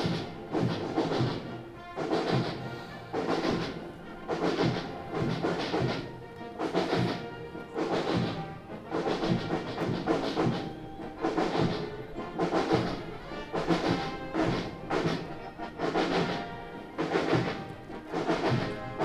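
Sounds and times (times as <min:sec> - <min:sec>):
brass playing a march: 0:00.0 - 0:19.0
steady drum beat: 0:00.0 - 0:19.0.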